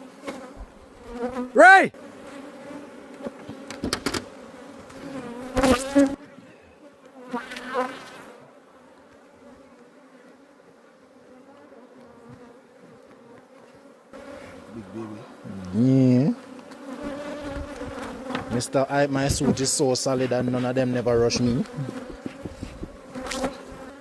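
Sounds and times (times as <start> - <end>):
bees buzzing: 0.0 - 8.4, 11.2 - 24.0.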